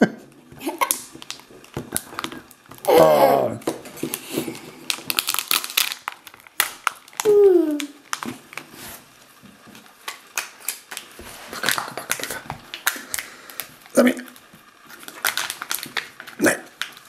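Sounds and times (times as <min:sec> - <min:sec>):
foil wrapper crinkling: 0:00.6 - 0:03.0, 0:03.6 - 0:17.0.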